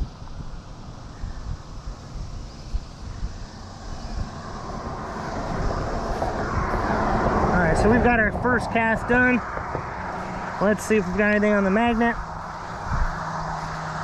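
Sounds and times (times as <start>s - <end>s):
vehicle road noise: 0.0s - 14.0s.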